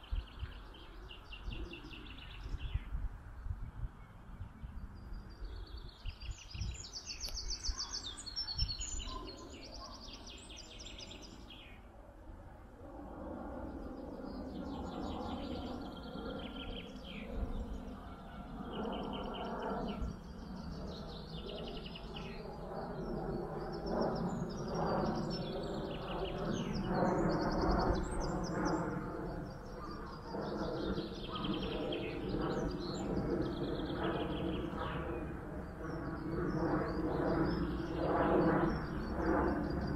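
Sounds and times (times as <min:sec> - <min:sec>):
songbirds singing: 0:00.0 - 0:12.8, 0:13.4 - 0:39.9.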